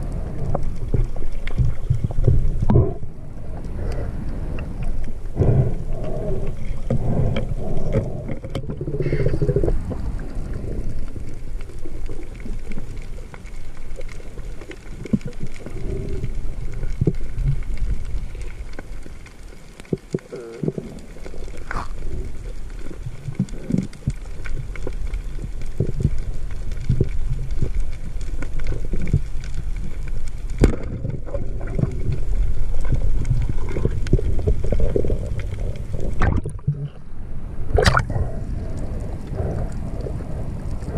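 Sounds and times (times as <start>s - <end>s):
muffled underwater water rumble: 0.0s - 40.9s.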